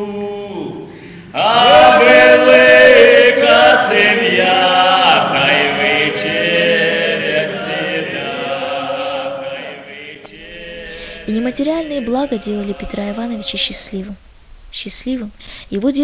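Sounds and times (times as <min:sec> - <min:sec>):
men singing folk song: 0:01.4 - 0:14.2.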